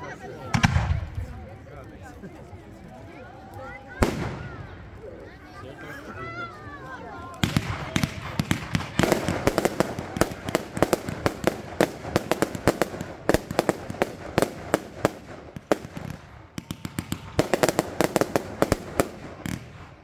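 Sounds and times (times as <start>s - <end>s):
fireworks bangs and crackles: 0.2s - 2.2s, 2.8s - 5.6s, 7.2s - 20.0s.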